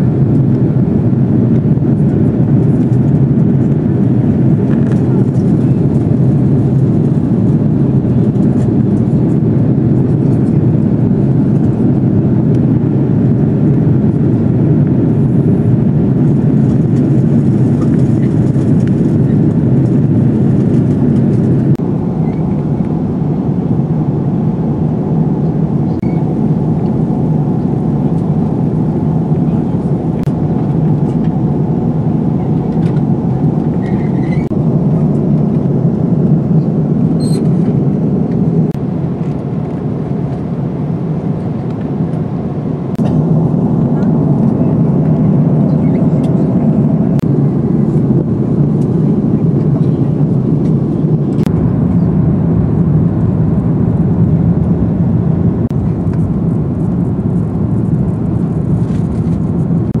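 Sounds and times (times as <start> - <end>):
jet airliner cabin noise: 0.0 - 60.0.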